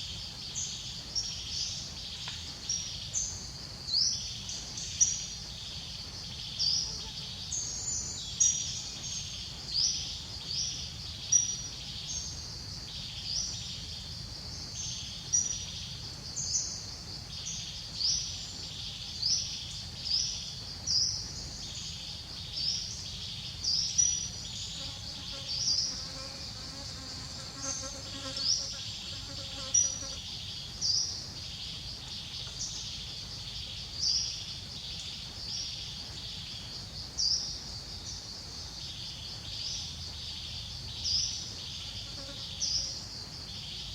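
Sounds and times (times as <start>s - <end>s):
insect chorus: 0.0s - 43.9s.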